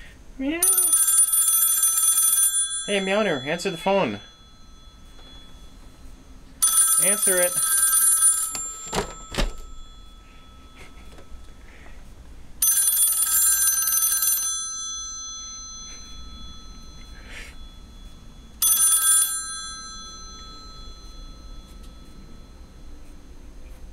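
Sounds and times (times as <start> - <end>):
telephone bells ringing: 0.6 - 12.0, 12.6 - 23.4.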